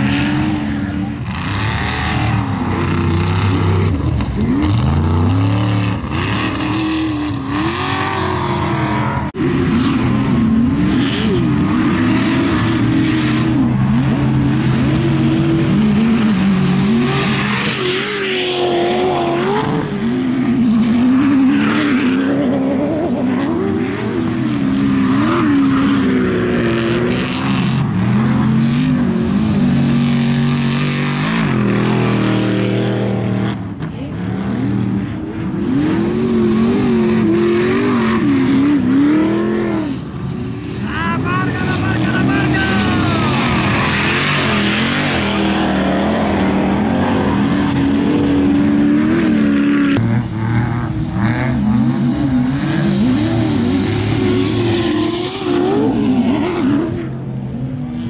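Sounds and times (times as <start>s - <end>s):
racing engines revving: 0.0s - 58.0s.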